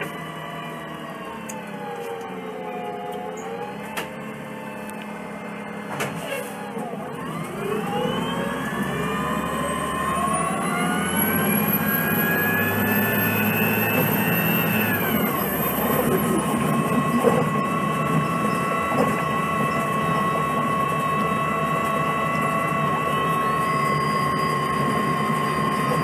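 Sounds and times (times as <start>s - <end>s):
bus drivetrain whine: 0.0s - 26.0s
bus engine running: 0.0s - 26.0s.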